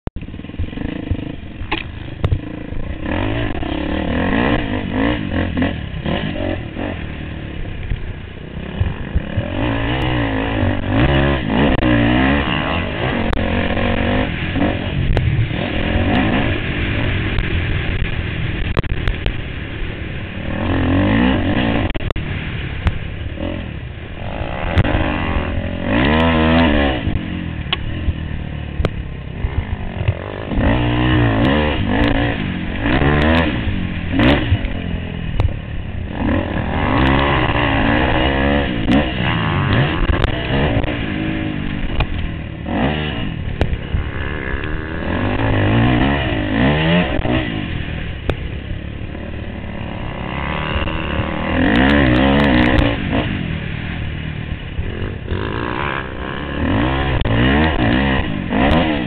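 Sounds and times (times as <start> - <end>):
dirt bike engine revving: 0.2 - 59.0.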